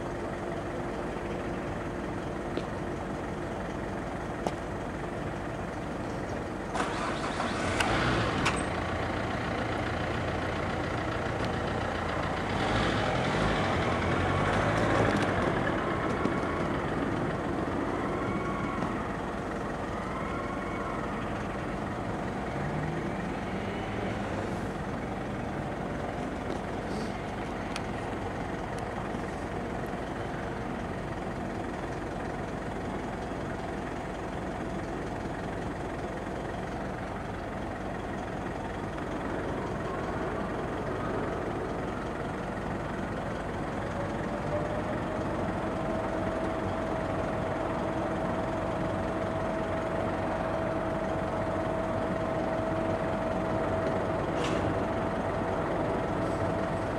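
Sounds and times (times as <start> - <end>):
truck engine running: 0.0 - 56.9.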